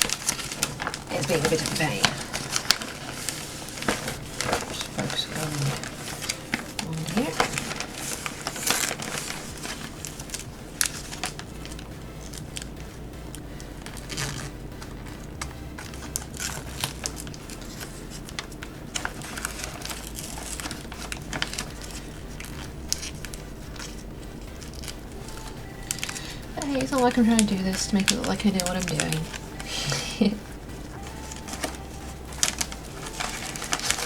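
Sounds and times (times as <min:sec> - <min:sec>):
paper sheet crinkling: 0:00.0 - 0:34.0.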